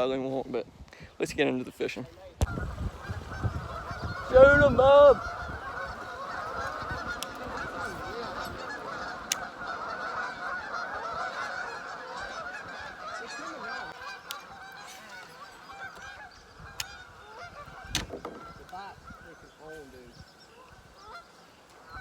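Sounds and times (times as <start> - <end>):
flock of birds calling: 2.2 - 22.0.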